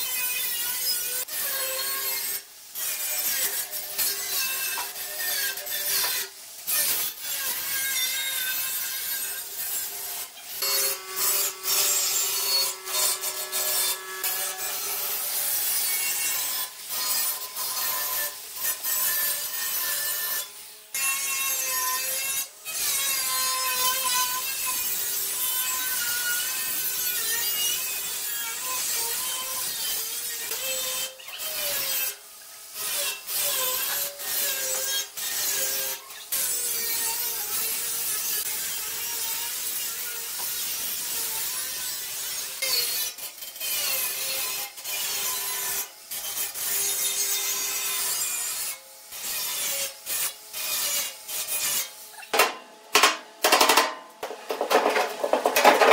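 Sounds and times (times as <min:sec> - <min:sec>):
angle grinder cutting steel: 0:00.0 - 0:55.9.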